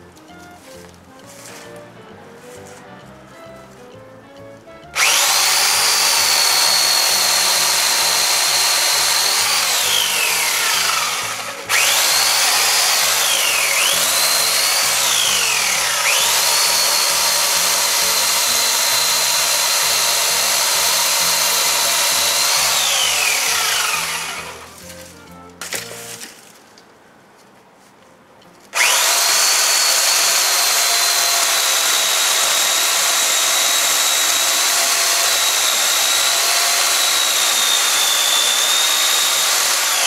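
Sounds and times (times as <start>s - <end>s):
electric chainsaw whine: 5.0s - 26.2s, 28.8s - 40.0s.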